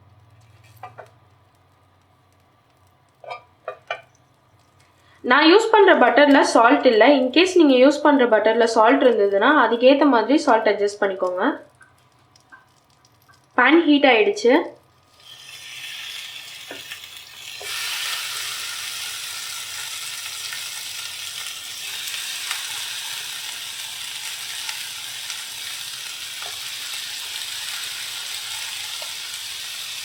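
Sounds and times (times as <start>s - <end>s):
tomato slices sizzling in a pan: 0.1s - 30.0s.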